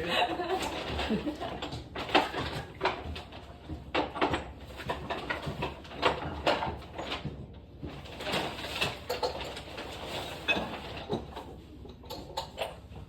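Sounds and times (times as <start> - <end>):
objects knocking and clattering: 0.0 - 13.0.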